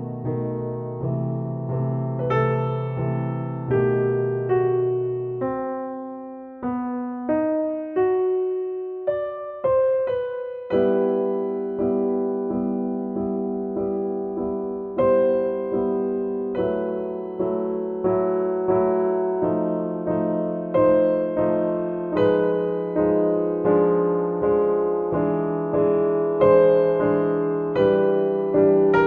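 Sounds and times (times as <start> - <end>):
gentle piano melody: 0.0 - 29.0
sustained piano chords: 0.0 - 29.0.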